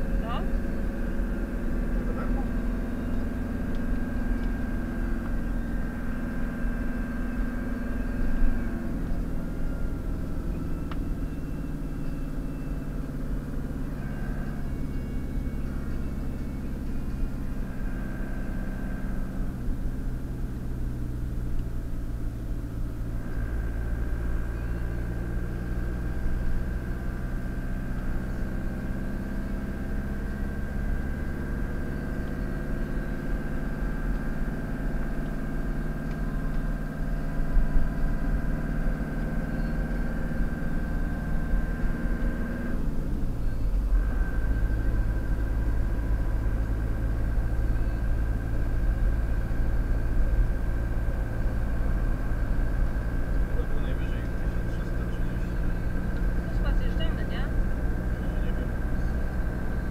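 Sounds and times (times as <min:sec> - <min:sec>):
car engine in cabin: 0:00.0 - 0:59.9
tyre road rumble: 0:00.0 - 0:59.9.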